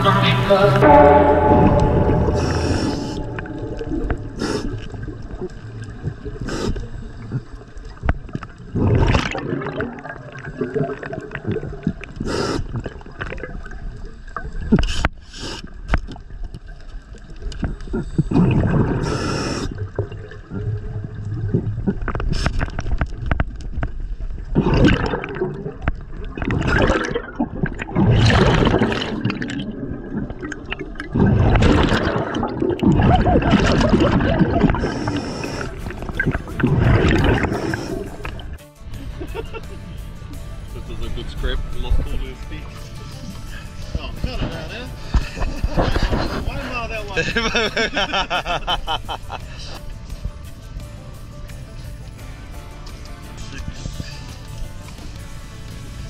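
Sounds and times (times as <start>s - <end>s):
underwater gurgling and bubbling: 0.6s - 39.3s, 40.0s - 48.9s.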